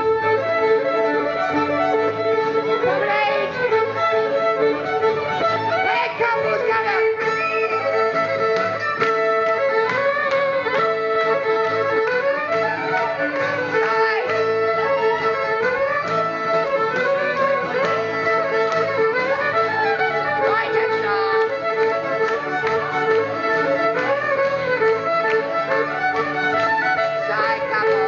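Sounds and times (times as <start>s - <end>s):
fiddle playing: 0.0s - 28.0s
guitar accompaniment: 0.0s - 28.0s.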